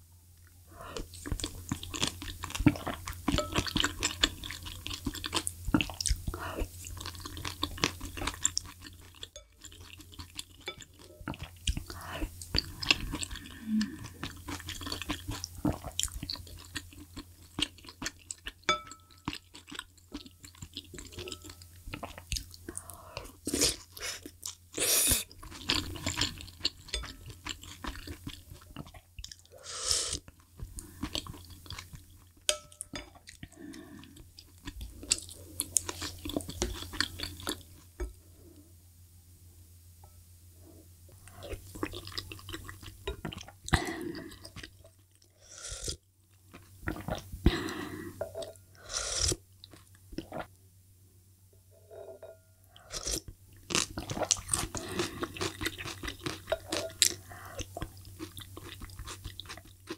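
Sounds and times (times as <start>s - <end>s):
chewing and wet mouth sounds: 0.4s - 37.9s, 41.1s - 45.3s, 46.3s - 47.8s, 49.6s - 50.5s, 52.7s - 59.9s.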